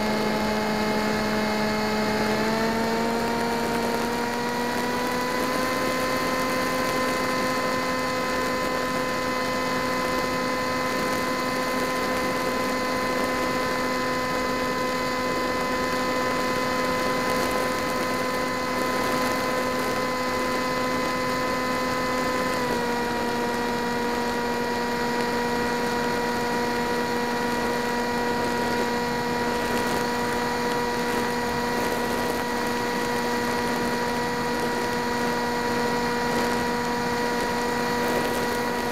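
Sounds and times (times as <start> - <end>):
model aircraft motor whine: 0.0 - 38.9.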